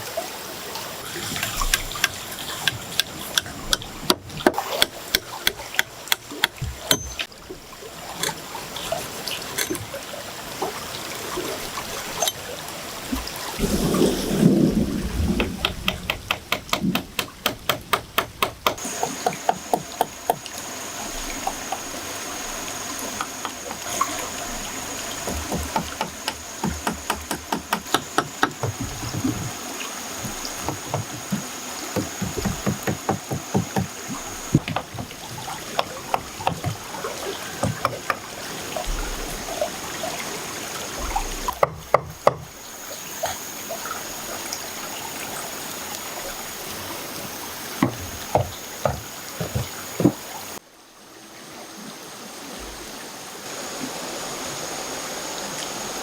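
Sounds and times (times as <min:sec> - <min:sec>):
water trickling: 0:00.0 - 0:50.6.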